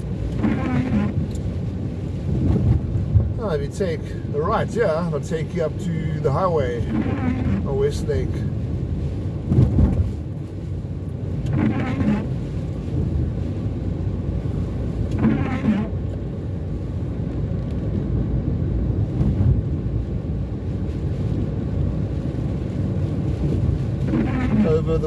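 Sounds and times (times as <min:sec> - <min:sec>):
engine and tyre rumble: 0:00.0 - 0:25.0
windscreen wipers sweeping: 0:00.0 - 0:25.0.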